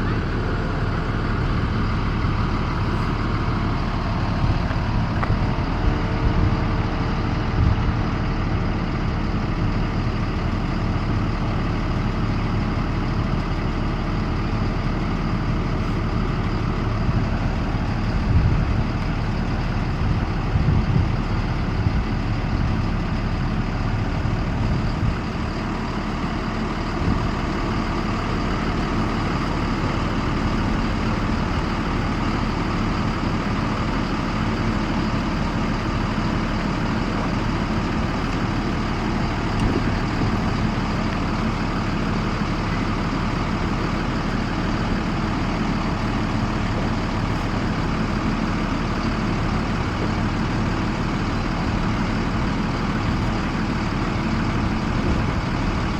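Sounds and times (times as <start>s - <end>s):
bus engine idling: 0.0s - 55.9s.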